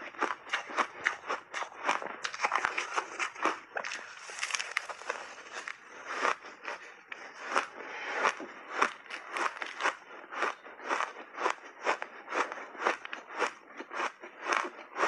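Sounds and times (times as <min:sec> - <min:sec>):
crunchy ice chewing: 0:00.0 - 0:15.0.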